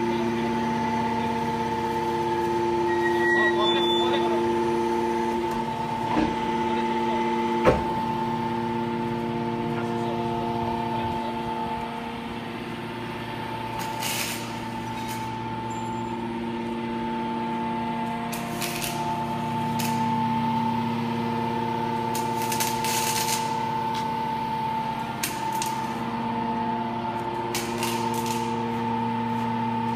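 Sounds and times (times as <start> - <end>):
hydraulic baler motor humming: 0.0 - 29.9.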